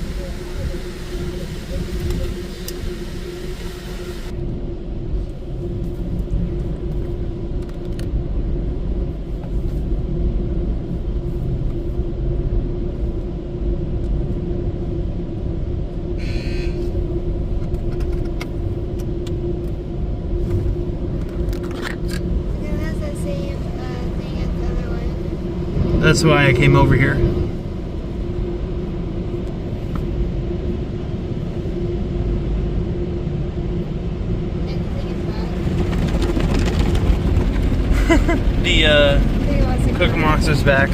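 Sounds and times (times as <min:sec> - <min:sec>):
car cabin rumble: 0:00.0 - 0:40.9.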